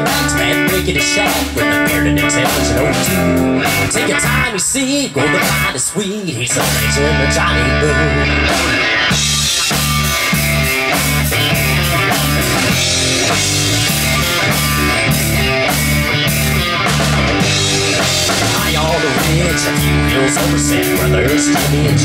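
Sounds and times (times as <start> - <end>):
distorted electric guitars: 0.0 - 22.0
drum kit beat: 0.0 - 22.0.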